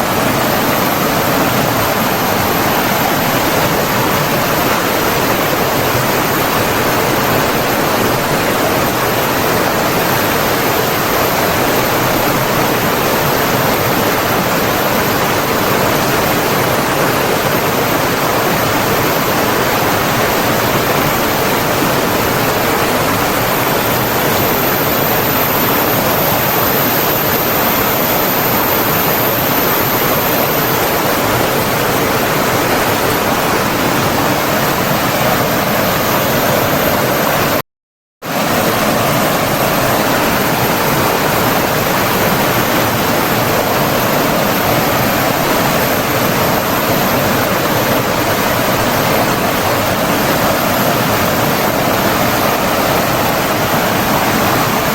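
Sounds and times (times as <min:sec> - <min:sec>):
rush of running water: 0:00.0 - 0:37.6, 0:38.2 - 0:54.9.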